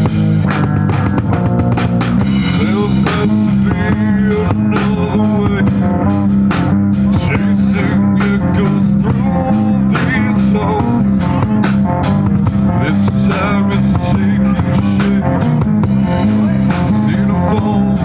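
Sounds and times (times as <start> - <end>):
heavy metal band playing: 0.0 - 18.0.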